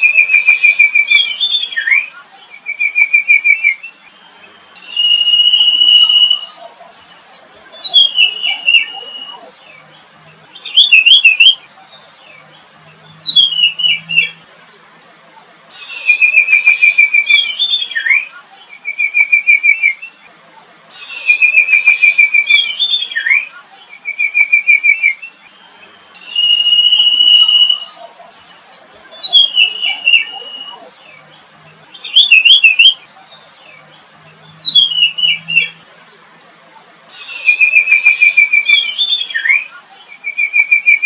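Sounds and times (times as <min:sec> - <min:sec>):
songbird singing with trills: 0:00.0 - 0:41.0.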